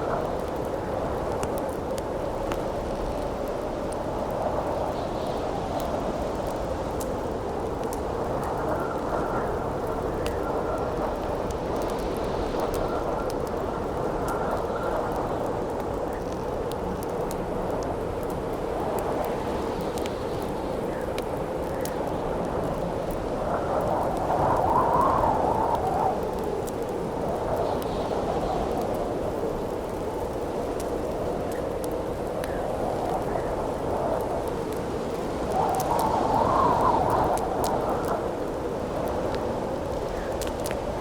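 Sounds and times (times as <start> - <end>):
campfire crackling: 0.0 - 41.0
howling wind: 0.0 - 41.0.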